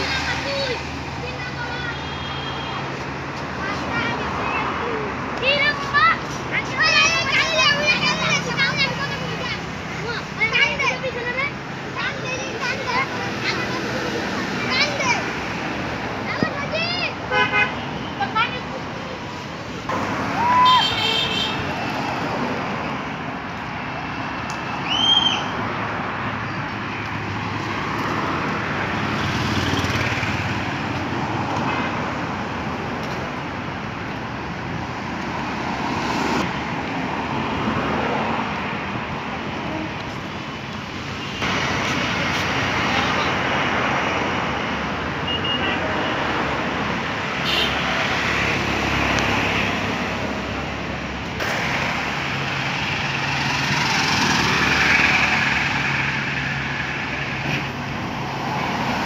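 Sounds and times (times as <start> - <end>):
passing cars: 0.0 - 59.0.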